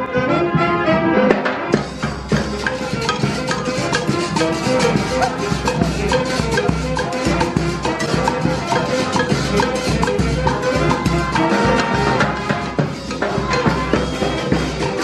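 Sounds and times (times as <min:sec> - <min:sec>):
latin band music: 0:00.0 - 0:15.0
drums: 0:00.4 - 0:15.0.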